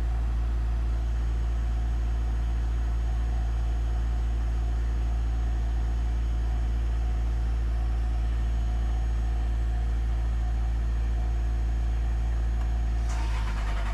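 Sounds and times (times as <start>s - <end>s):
car engine low hum: 0.0s - 13.9s.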